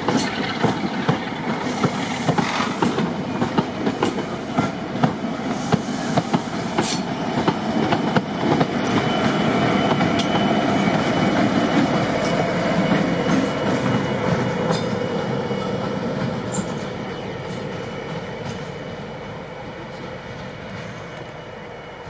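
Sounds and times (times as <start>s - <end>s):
train running on rails: 0.0s - 22.0s.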